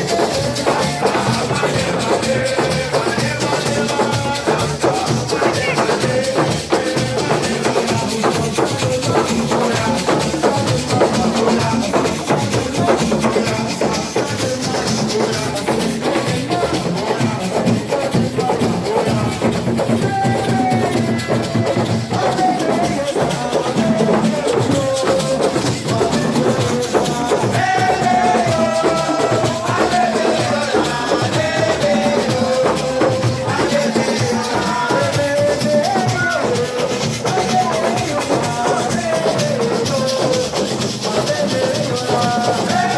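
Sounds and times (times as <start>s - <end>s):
drums playing fast rhythm: 0.0s - 42.9s
shakers: 0.0s - 42.9s.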